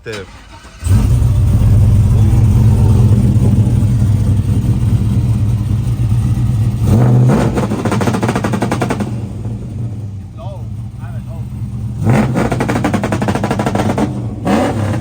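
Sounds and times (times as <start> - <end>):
truck engine revving: 0.0 - 15.0
exhaust pops and crackles: 1.0 - 11.4, 12.0 - 15.0.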